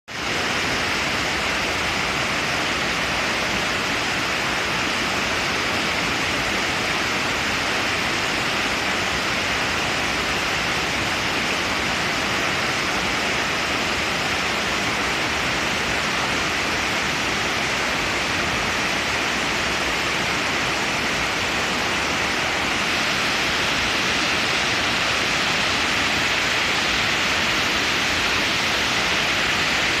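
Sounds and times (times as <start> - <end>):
waterfall roaring: 0.1 - 30.0.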